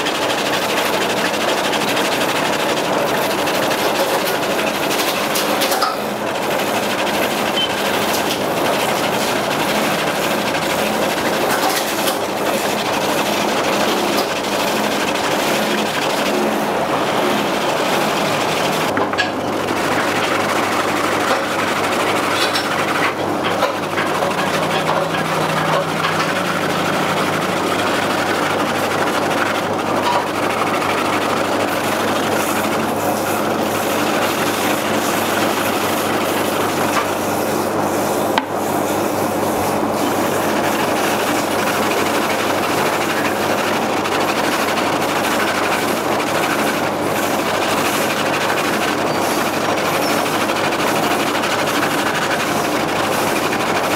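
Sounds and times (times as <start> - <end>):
machine running: 0.0 - 53.9.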